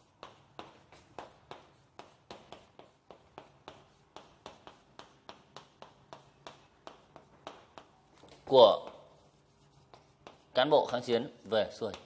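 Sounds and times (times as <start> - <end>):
chalk writing on blackboard: 0.0 - 12.0.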